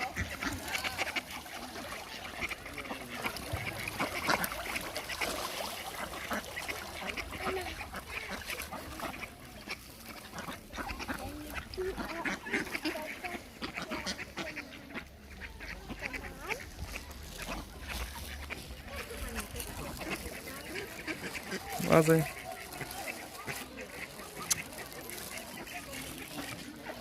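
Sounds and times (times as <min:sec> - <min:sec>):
ducks quacking: 0:00.0 - 0:27.0.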